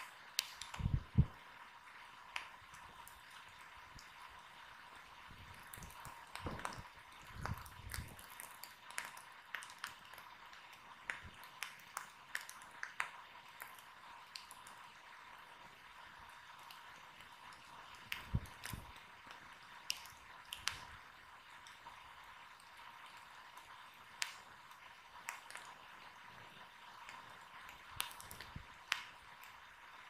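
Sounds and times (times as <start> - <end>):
fire crackling with pops: 0.0 - 30.0.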